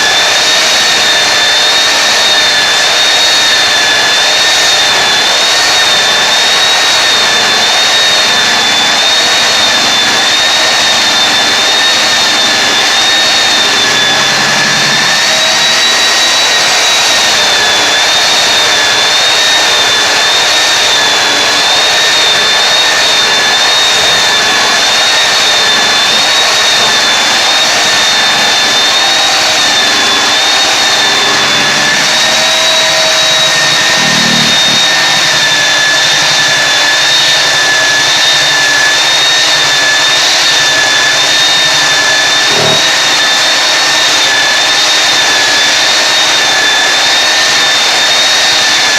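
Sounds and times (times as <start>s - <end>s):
electric belt sander whining: 0.0s - 48.9s.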